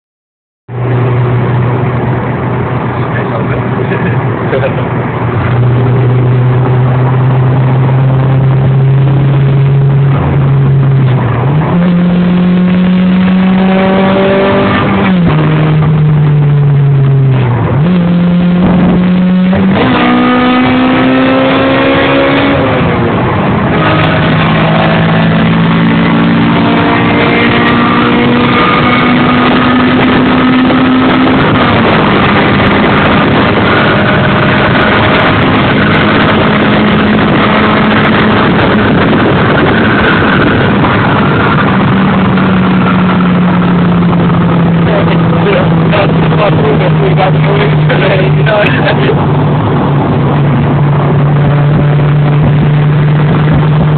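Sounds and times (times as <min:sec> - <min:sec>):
engine running: 0:00.7 - 0:53.9.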